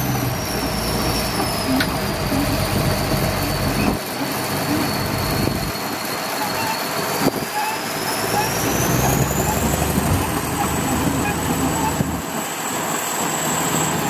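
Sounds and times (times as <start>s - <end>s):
bulldozer engine rumble: 0.0s - 14.0s
crawler tracks clanking and squealing: 0.0s - 14.0s.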